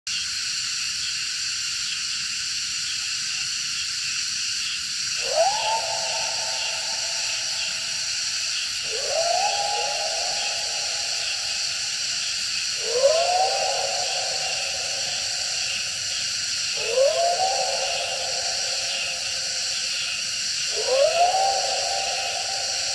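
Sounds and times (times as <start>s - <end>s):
steady high hiss: 0.1s - 22.9s.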